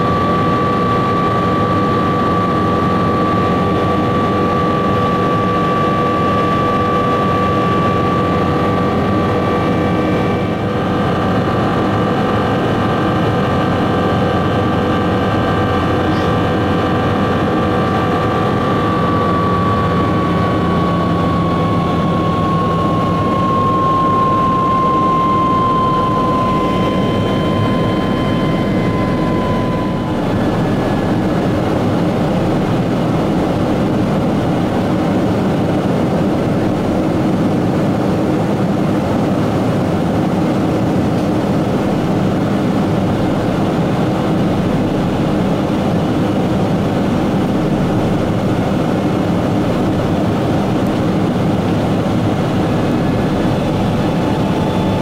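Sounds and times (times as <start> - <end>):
airliner roar in flight: 0.0 - 55.0
high engine whine: 0.0 - 55.0.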